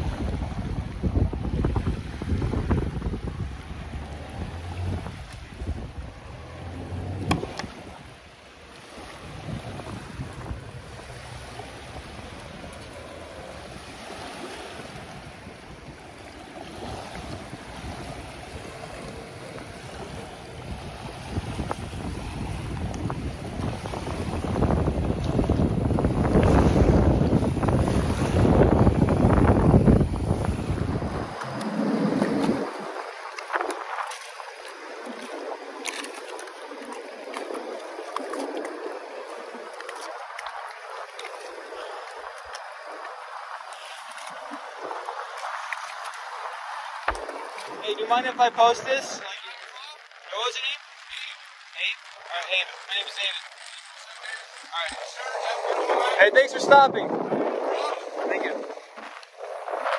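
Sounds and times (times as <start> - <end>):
small waves lapping on shore: 0.0 - 59.9
wind rumbling on microphone: 0.0 - 59.9.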